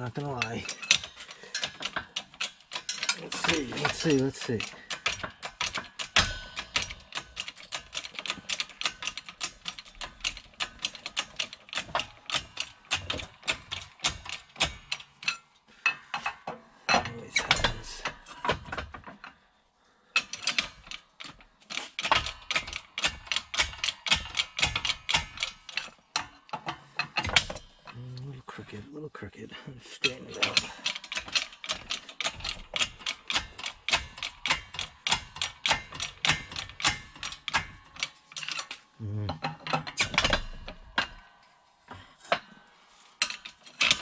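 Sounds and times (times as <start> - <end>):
hydraulic jack clicking: 0.3 - 19.3, 20.2 - 27.9, 30.0 - 41.2, 43.2 - 44.0.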